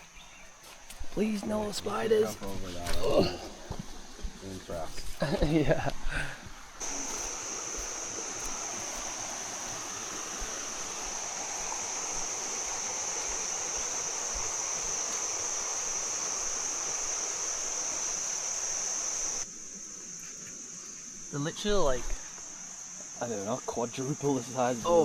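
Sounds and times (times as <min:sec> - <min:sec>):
high-pitched insect drone: 0:00.0 - 0:25.0
stream water rushing: 0:00.0 - 0:25.0.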